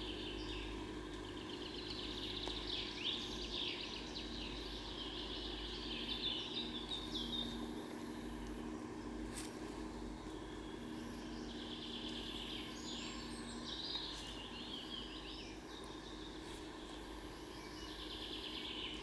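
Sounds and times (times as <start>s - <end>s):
songbirds singing: 0.0s - 19.0s
steady low hum: 0.0s - 19.0s.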